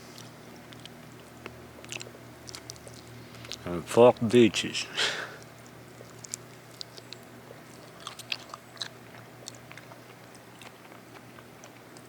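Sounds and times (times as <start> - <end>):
person chewing: 0.1 - 3.7, 5.2 - 12.0.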